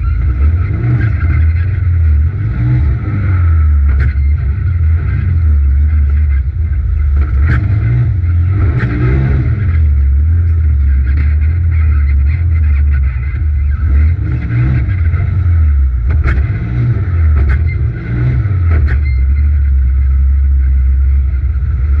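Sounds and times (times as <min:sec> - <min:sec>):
engine running hard: 0:00.0 - 0:22.0.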